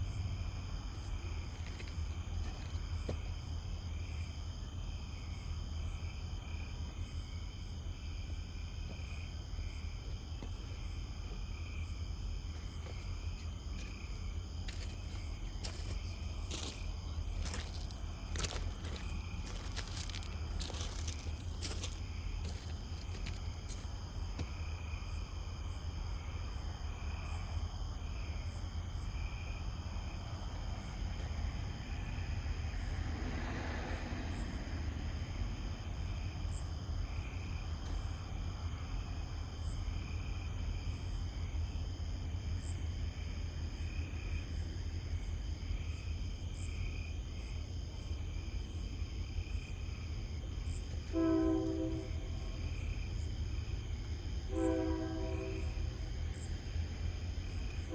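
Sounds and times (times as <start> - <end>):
night insects chirping: 0.0 - 57.9.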